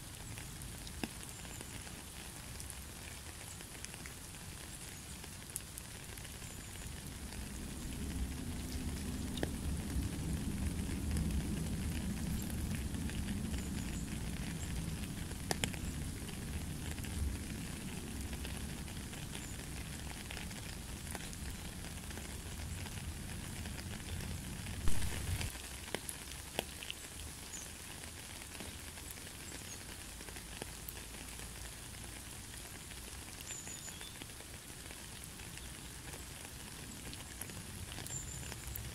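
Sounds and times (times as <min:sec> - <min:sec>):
rain on puddle and gravel: 0:00.0 - 0:38.9.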